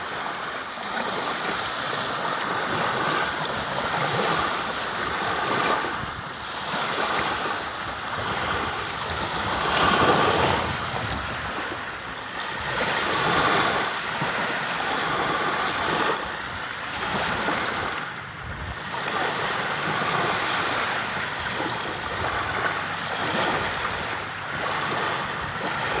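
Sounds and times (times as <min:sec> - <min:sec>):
sea waves breaking: 0:00.0 - 0:26.0.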